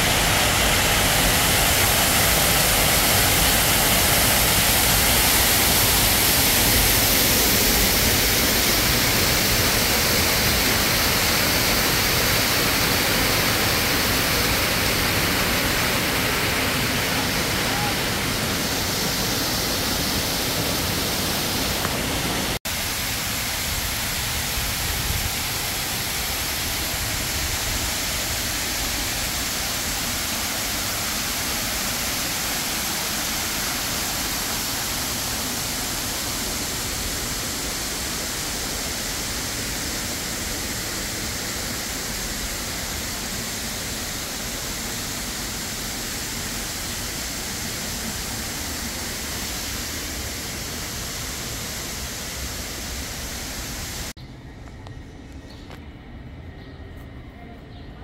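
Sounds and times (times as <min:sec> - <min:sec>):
steady rushing noise: 0:00.0 - 0:54.2.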